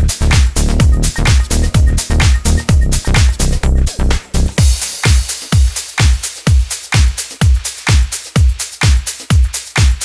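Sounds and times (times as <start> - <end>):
electronic dance music: 0.0 - 10.0
kick drum: 0.0 - 10.0
ticking hi-hat: 0.0 - 10.0.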